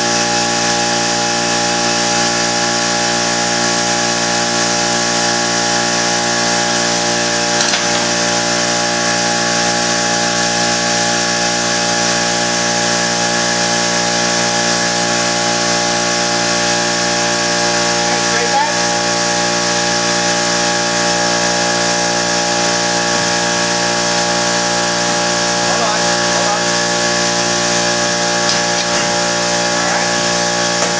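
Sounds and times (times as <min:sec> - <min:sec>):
motor humming and whining: 0:00.0 - 0:30.9.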